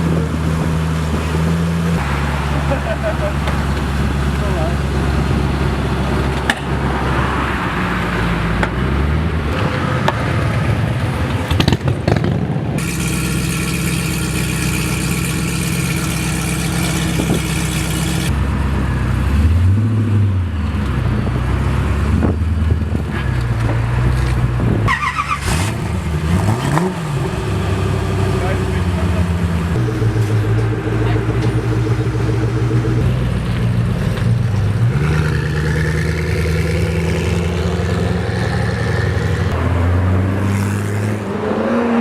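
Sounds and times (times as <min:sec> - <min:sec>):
car engine idling and revving: 0:00.0 - 0:42.0.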